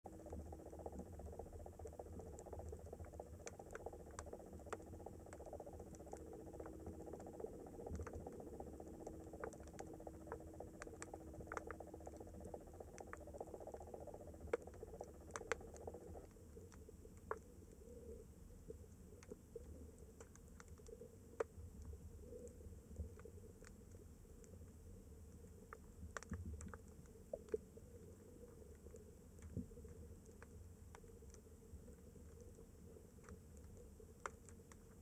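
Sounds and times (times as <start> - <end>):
low underwater hum: 0.0 - 35.0
underwater clicks and crackles: 0.1 - 35.0.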